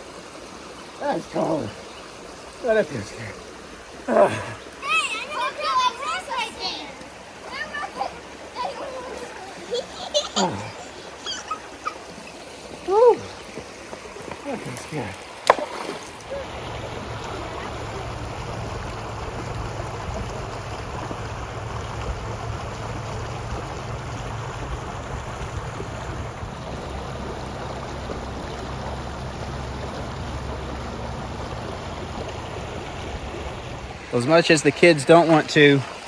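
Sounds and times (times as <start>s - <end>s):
creek water rushing: 0.0s - 36.0s.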